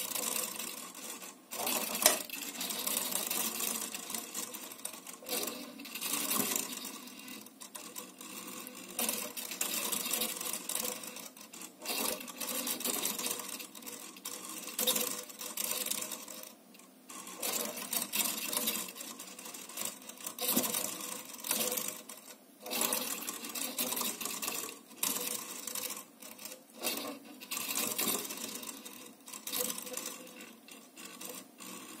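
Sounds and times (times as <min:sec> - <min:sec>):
metal ball rolling on a plate: 0:00.0 - 0:32.0.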